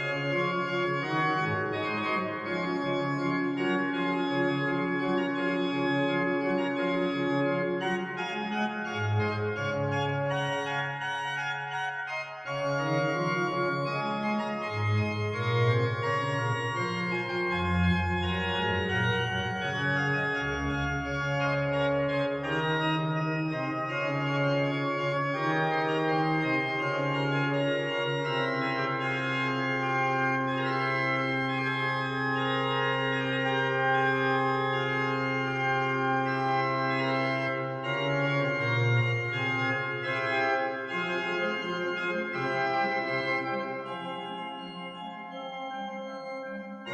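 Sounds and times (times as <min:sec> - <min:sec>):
organ playing slow chords: 0:00.0 - 0:46.9.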